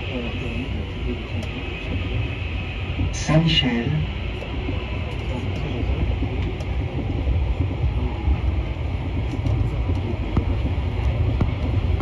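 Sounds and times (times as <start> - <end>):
train rumbling through tunnel: 0.0 - 12.0.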